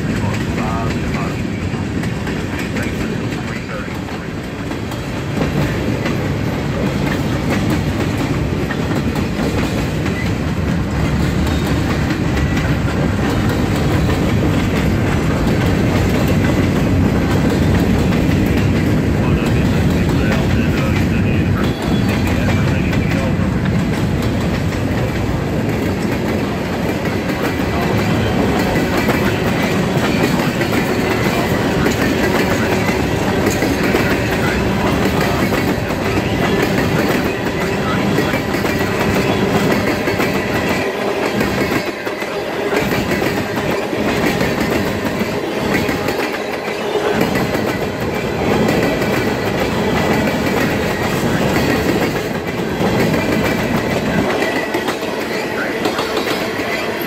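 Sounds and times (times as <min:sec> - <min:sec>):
steel wheels running on rails: 0:00.0 - 0:57.0.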